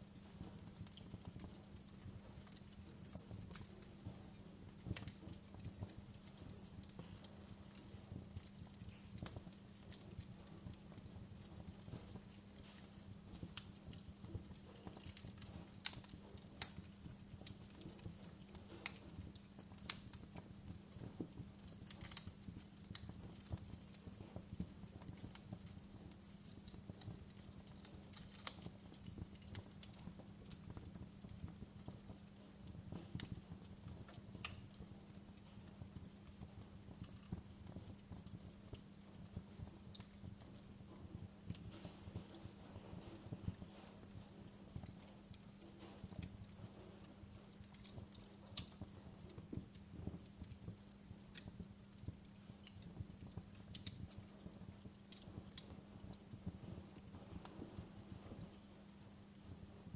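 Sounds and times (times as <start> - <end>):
low steady hum: 0.0 - 59.9
wood fire crackling: 0.0 - 59.9.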